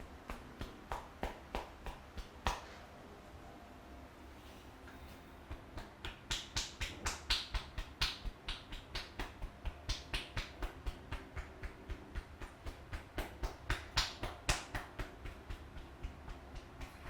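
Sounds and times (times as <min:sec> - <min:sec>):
hands slapping in massage: 0:00.0 - 0:02.8, 0:05.4 - 0:17.0.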